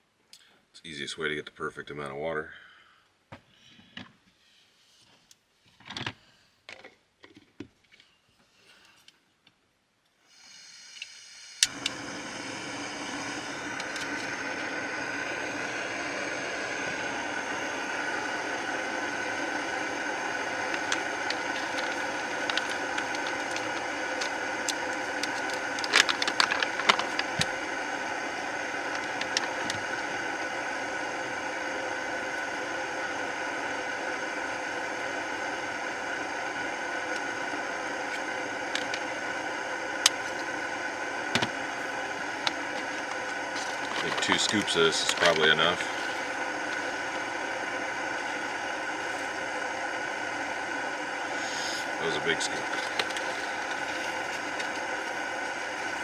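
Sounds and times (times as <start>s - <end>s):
gas burner hissing: 10.2s - 56.0s.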